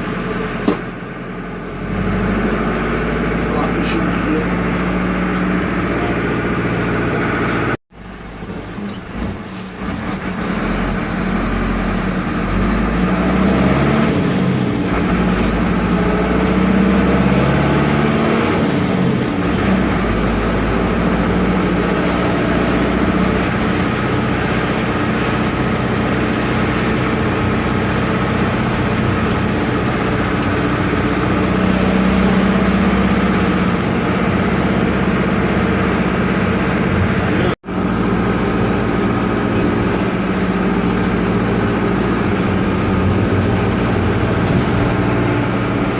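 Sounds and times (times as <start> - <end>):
diesel bus engine running: 0.0 - 45.9.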